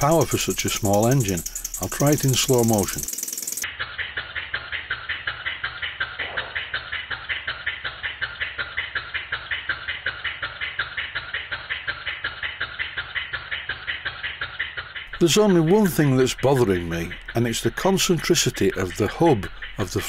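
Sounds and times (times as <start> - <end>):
steam engine exhaust chuffs: 0.0 - 20.0.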